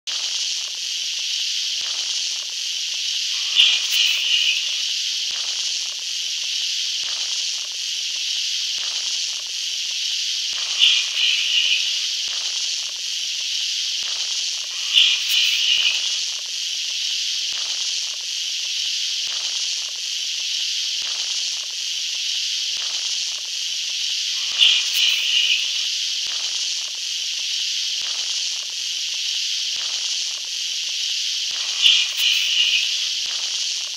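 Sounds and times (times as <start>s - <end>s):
static hiss: 0.1s - 33.9s.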